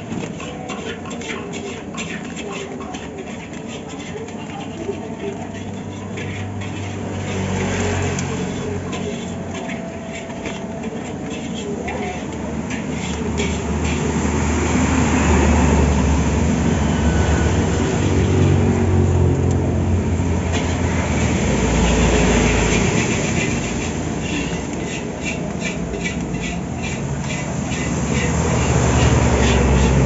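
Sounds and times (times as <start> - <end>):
rhythmic scraping or clicking: 0.0 - 30.0.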